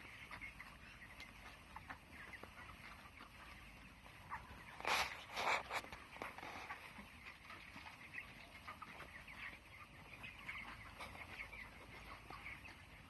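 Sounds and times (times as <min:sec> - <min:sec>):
chickens cheeping and clucking: 0:00.0 - 0:13.0.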